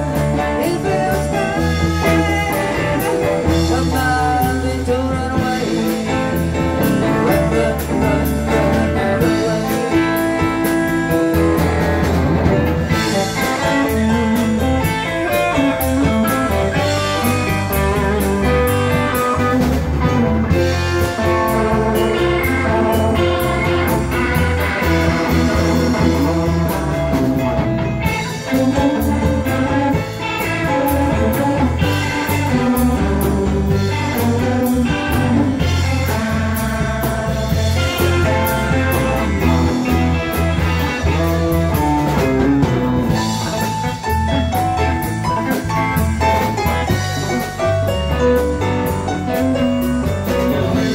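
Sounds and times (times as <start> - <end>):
electric guitar: 0.0 - 50.9
live band playing: 0.0 - 50.9.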